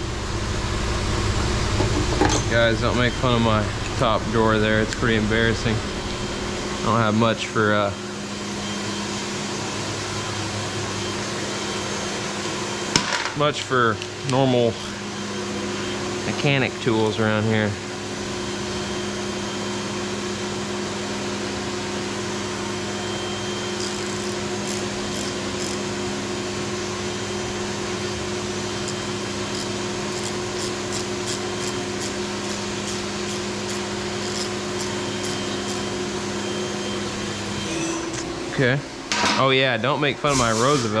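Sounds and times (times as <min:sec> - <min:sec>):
mill whirring and humming: 0:00.0 - 0:41.0.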